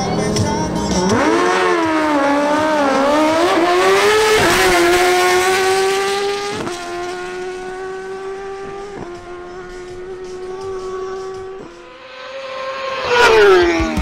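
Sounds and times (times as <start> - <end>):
motorcycle engines at full throttle: 0.0 - 14.0.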